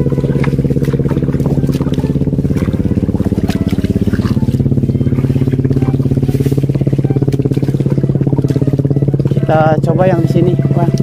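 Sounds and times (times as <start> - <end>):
small boat engine puttering: 0.0 - 11.0.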